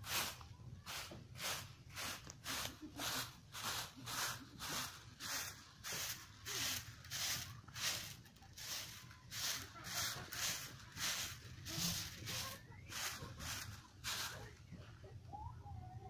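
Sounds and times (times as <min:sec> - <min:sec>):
broom swishing over grass: 0:00.0 - 0:14.6.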